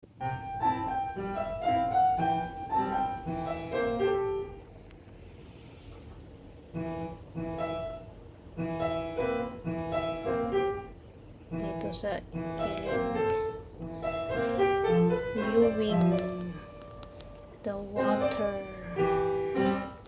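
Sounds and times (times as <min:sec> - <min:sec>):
solo piano music: 0:00.0 - 0:04.8, 0:06.5 - 0:20.0.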